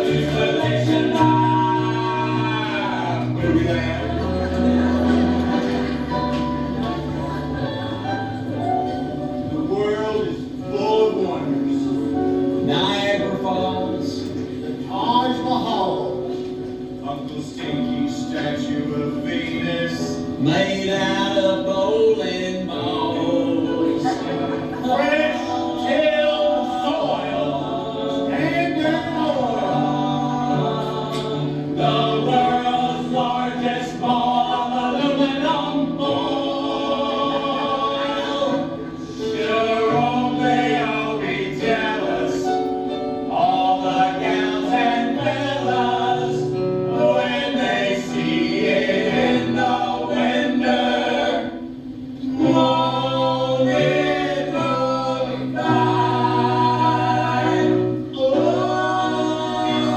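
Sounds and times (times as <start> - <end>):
group singing in harmony: 0.0 - 59.9.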